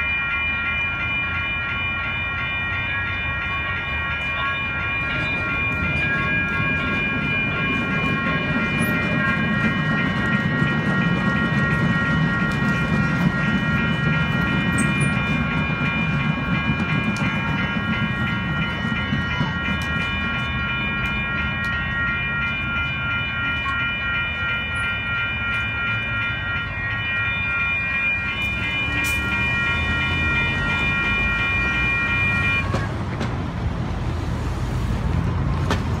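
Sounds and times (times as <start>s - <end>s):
light rail train rumbling past: 0.0s - 36.0s
railroad crossing bells ringing: 0.0s - 36.0s.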